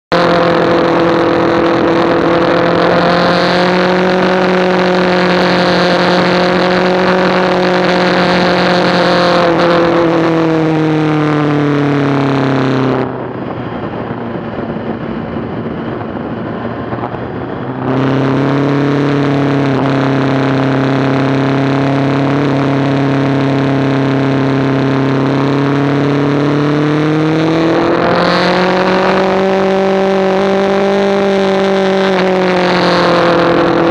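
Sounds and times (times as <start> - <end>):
motorcycle engine running: 0.1 - 33.9
wind noise on microphone: 0.1 - 33.9.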